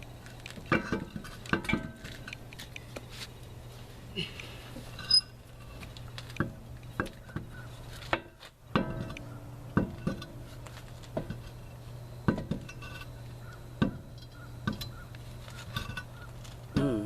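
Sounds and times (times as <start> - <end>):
metal wheel clanking on hub: 0.5 - 2.4, 4.9 - 16.9.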